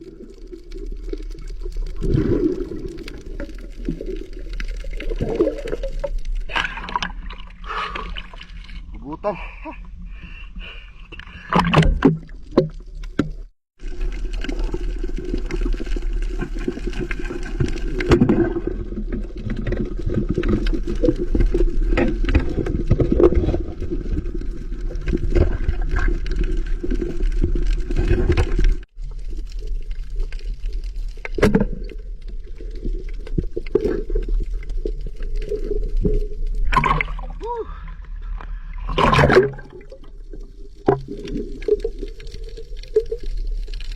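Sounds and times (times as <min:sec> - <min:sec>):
underwater water gurgling: 0:00.0 - 0:09.0, 0:11.1 - 0:43.9.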